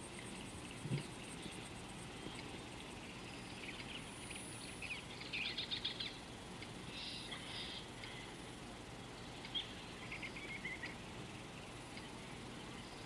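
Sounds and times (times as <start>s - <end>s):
birds chirping: 0.0s - 13.0s
faint high insect buzz: 0.0s - 13.0s.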